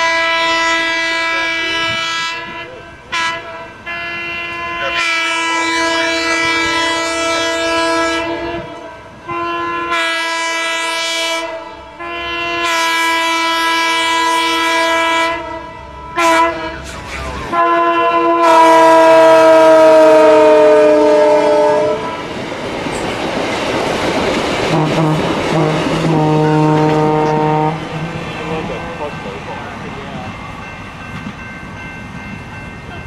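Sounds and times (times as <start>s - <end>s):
locomotive air horn blasts: 0.0s - 22.3s, 24.7s - 29.1s
train wheels rumbling on rail: 0.0s - 33.0s.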